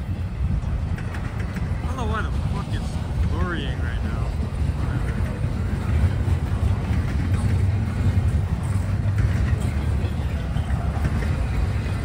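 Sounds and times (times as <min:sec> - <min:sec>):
train passing rumble: 0:00.0 - 0:12.0.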